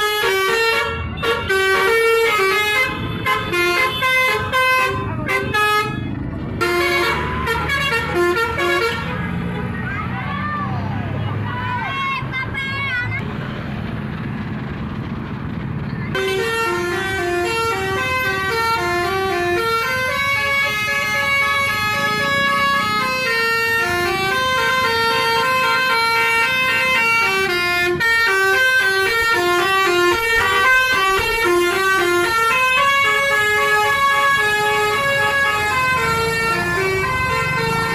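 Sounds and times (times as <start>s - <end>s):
multi-tone bus horn melody: 0.0s - 9.8s, 16.1s - 37.9s.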